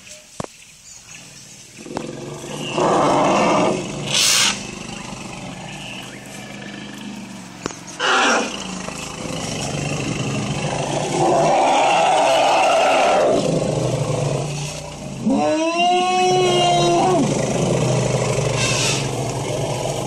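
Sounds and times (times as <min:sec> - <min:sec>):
elephants roaring: 0:01.8 - 0:20.0
low elephant rumbling: 0:01.8 - 0:20.0
elephant trumpeting: 0:02.1 - 0:07.2, 0:07.9 - 0:14.4, 0:15.2 - 0:20.0.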